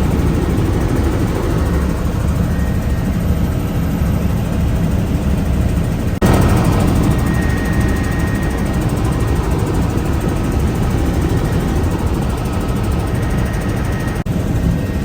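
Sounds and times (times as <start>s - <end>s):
faint high whine: 0.0s - 15.0s
helicopter engine and rotor: 0.0s - 15.0s.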